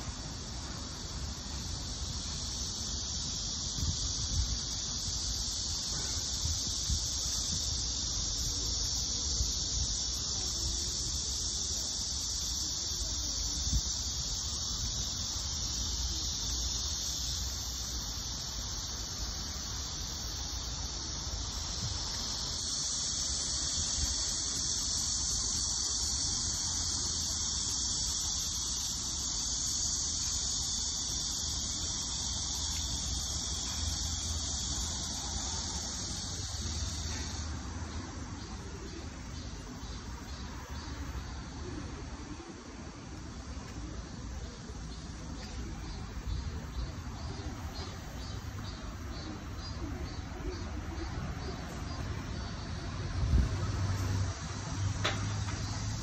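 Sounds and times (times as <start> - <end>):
cicadas chorus: 0.0 - 56.0.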